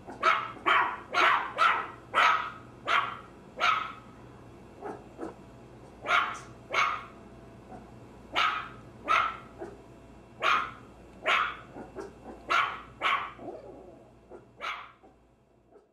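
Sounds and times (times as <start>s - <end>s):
small dog barking: 0.0s - 4.1s, 4.8s - 5.4s, 6.0s - 15.9s.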